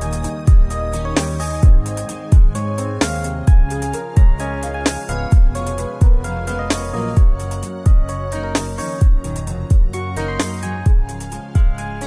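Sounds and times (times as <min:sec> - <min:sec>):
deep programmed kick drum: 0:00.0 - 0:04.5, 0:05.2 - 0:12.0
sustained keyboard chords: 0:00.0 - 0:12.0.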